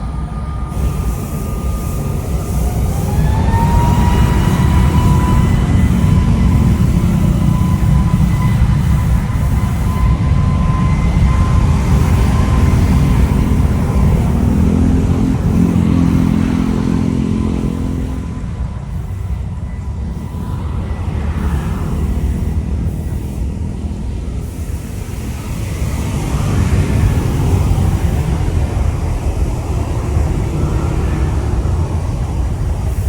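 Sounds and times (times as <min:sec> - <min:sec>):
jet engine high whine: 0:00.0 - 0:33.0
jet engines rumbling: 0:00.0 - 0:33.0.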